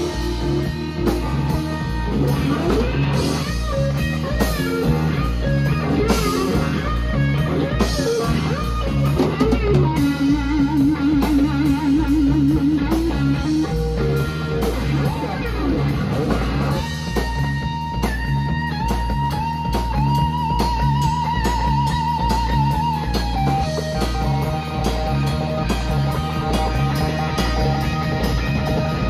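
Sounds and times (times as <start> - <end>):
bass: 0.0 - 29.0
drums: 0.0 - 29.0
electric guitar solo with vibrato: 0.0 - 29.0.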